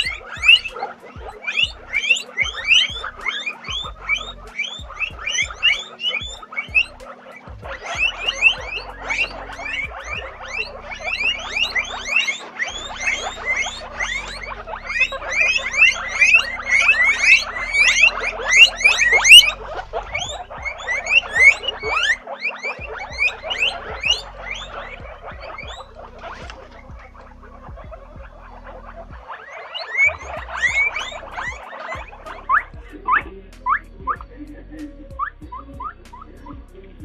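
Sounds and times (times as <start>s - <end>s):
guinea pigs wheeking: 0.0s - 37.0s.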